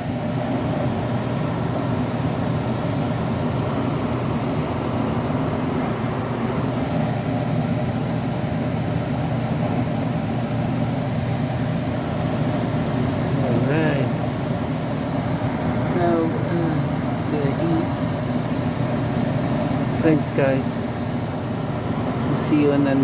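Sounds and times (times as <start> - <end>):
gas furnace blower humming: 0.0 - 23.0.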